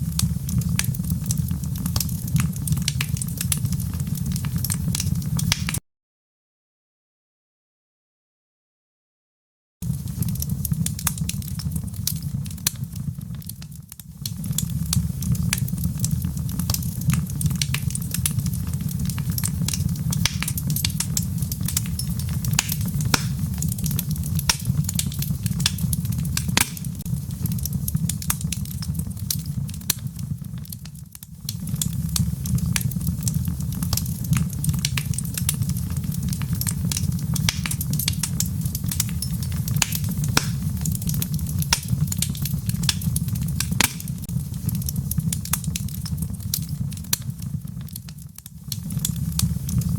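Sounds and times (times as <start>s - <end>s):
low rumble of flames: 0.0s - 5.8s, 9.8s - 49.9s
wood fire crackling: 0.0s - 5.8s, 9.8s - 49.9s.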